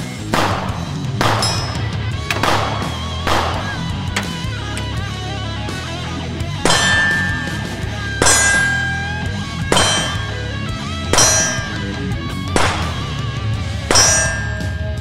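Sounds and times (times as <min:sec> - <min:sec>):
pistol shots: 0:00.0 - 0:04.6, 0:06.6 - 0:15.0
steel plate target ringing: 0:01.3 - 0:05.0, 0:06.6 - 0:15.0.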